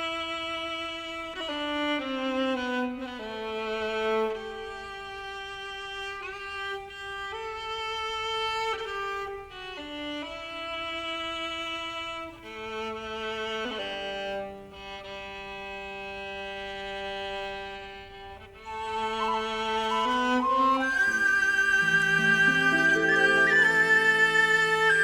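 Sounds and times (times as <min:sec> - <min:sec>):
slow violin and string music: 0:00.0 - 0:25.0.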